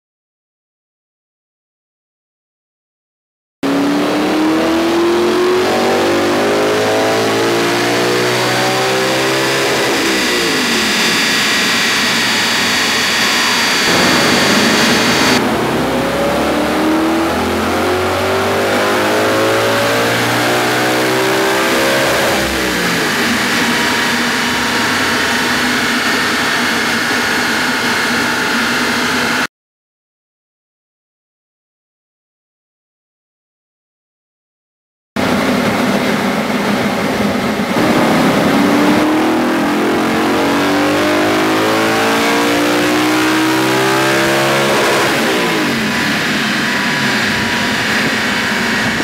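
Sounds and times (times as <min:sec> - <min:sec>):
car engine revving at full throttle: 0:03.6 - 0:29.5, 0:35.2 - 0:49.0.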